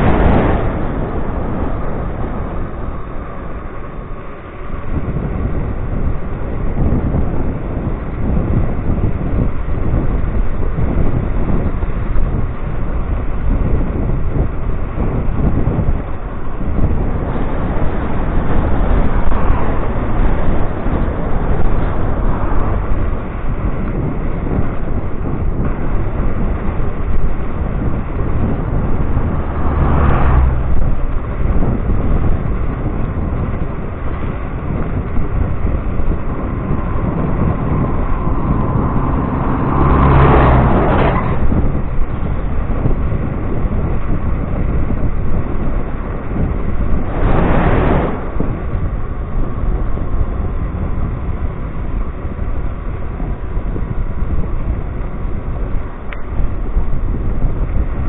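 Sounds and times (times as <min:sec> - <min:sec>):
road rumble: 0:00.0 - 0:58.0
wind rush on microphone: 0:00.0 - 0:58.0.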